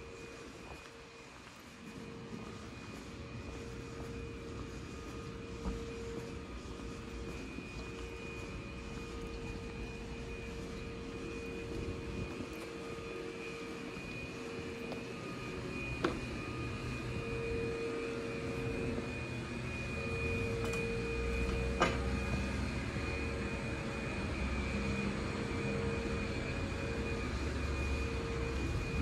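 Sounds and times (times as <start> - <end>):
electric train humming: 0.0 - 29.0.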